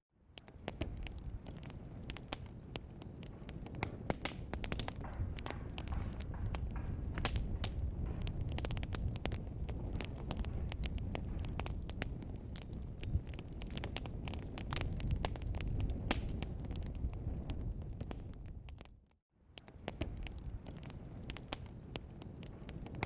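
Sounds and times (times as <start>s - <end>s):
low rumble of flames: 0.2s - 23.0s
wood fire crackling and popping: 0.2s - 23.0s.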